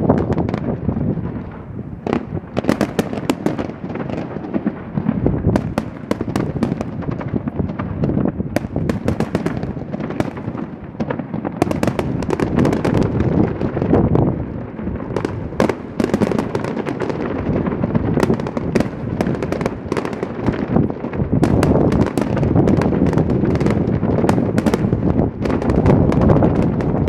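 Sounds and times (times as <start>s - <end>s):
fireworks cracking and popping: 0.0s - 27.0s.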